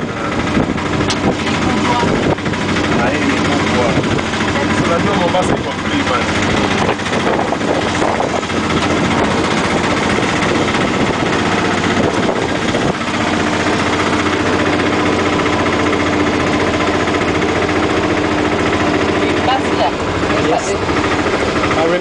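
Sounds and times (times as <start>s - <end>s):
rushing air: 0.0s - 19.0s
auto-rickshaw engine running: 0.0s - 22.0s
road noise: 0.0s - 22.0s.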